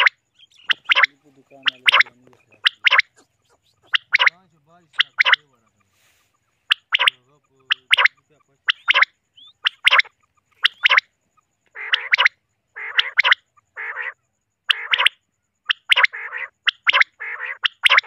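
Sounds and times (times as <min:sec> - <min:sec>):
quail paired calls: 0:00.0 - 0:18.0
rasping quail calls: 0:00.0 - 0:18.0.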